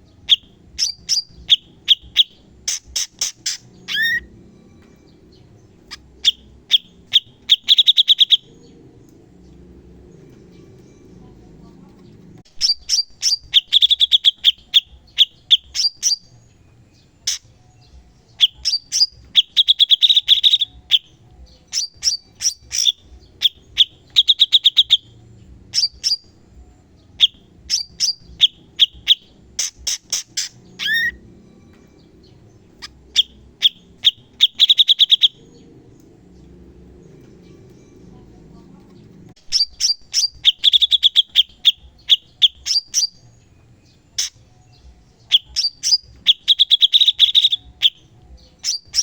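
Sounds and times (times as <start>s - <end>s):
bird chirping and trilling: 0.1s - 49.0s.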